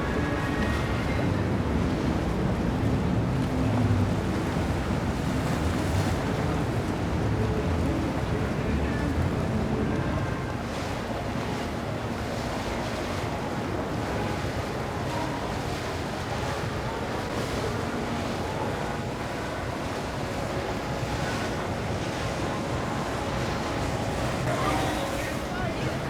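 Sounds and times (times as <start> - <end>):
motorboat engine rumble: 0.0 - 26.0
water wash: 0.0 - 26.0.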